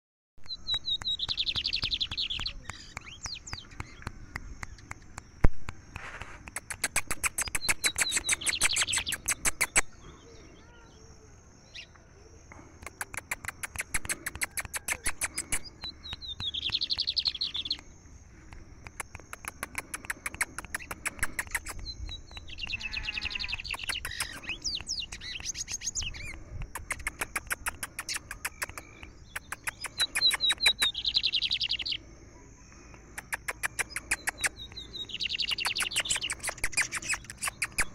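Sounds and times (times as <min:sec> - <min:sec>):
bird singing clicking trills and whistles: 0:00.4 - 0:10.2, 0:11.7 - 0:32.0, 0:32.7 - 0:37.9.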